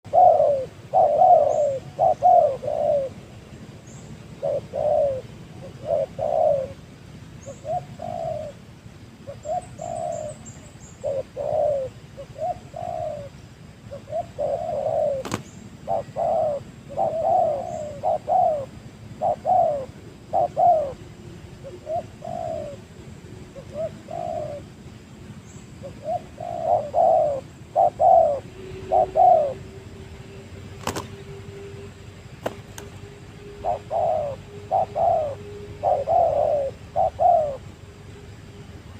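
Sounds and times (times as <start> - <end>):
dove cooing: 0.0 - 24.8, 25.7 - 29.8, 32.4 - 37.8.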